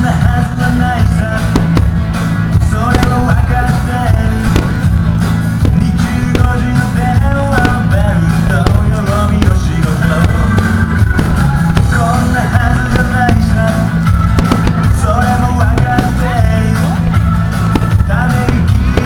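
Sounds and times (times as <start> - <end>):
rock music with singing: 0.0 - 19.0.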